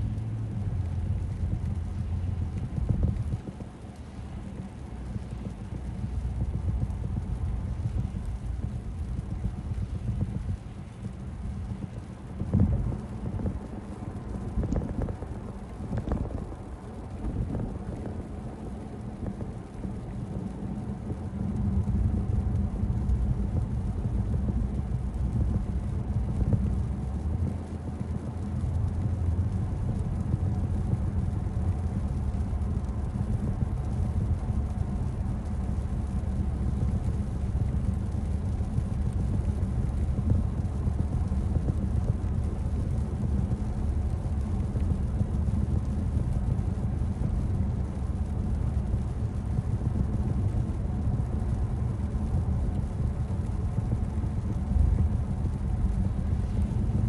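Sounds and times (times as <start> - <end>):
road and tyre noise in car: 0.0 - 57.0.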